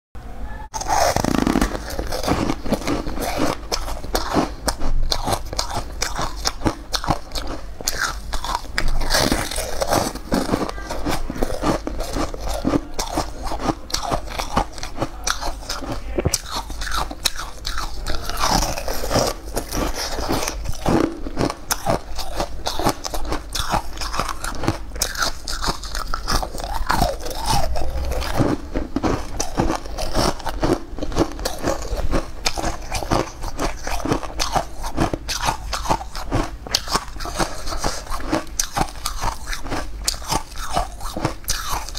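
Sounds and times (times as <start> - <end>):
crunching frozen ice treat: 0.8 - 41.9.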